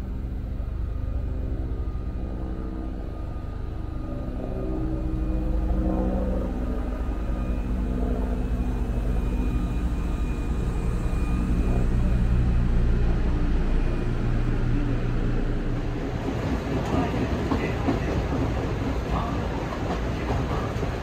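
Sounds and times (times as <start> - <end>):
faint high whine: 0.0 - 19.3
electric train hum: 0.0 - 21.0
train rumble under way: 0.0 - 21.0.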